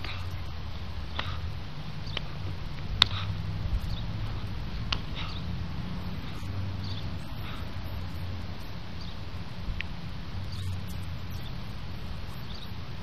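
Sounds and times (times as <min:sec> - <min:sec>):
sharp ticks: 0:00.0 - 0:12.8
steady low rumble: 0:00.0 - 0:13.0.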